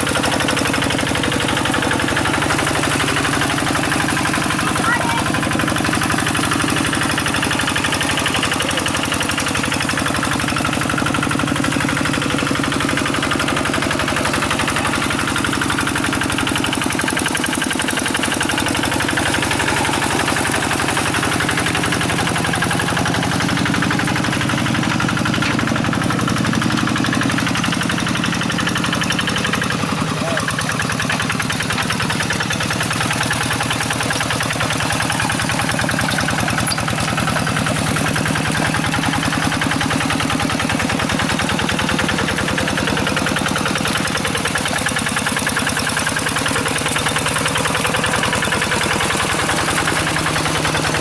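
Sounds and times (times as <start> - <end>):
diesel engine chugging: 0.0 - 51.0.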